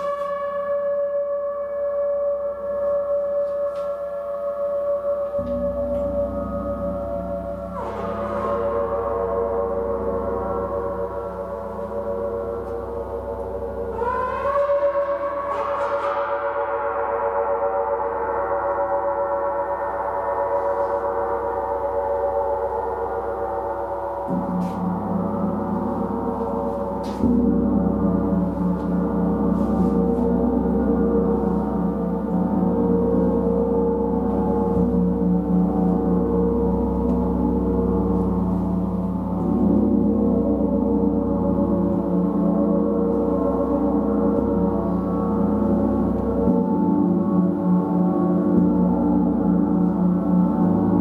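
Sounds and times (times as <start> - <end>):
gong ringing: 0.0 - 51.0.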